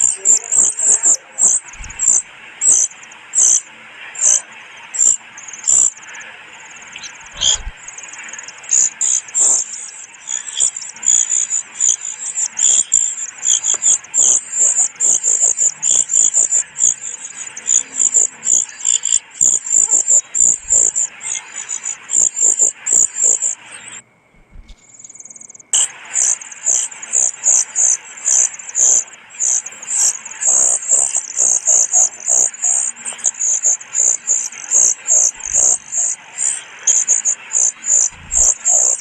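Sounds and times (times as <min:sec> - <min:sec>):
chick begging calls: 0:00.0 - 0:39.0.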